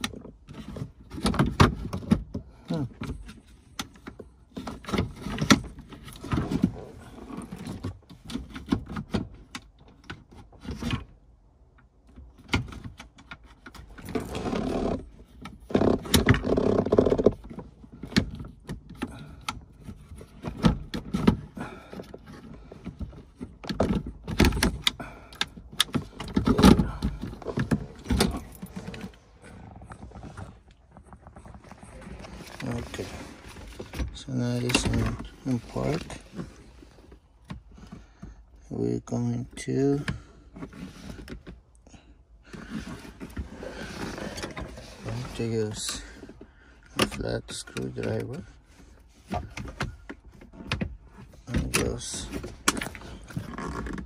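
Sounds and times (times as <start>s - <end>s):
gear shifter clicking and rattling: 0.0s - 54.0s.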